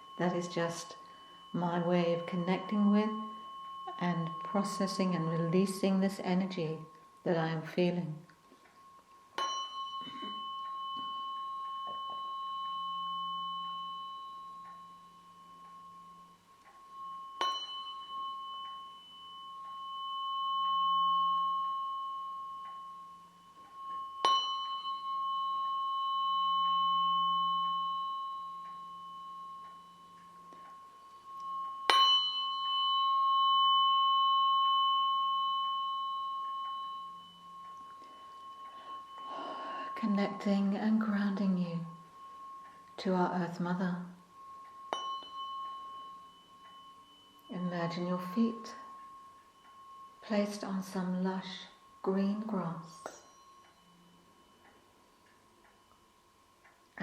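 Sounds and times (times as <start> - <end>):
tuning fork ringing tone: 0.0 - 57.0
tuning fork tap: 0.0 - 57.0.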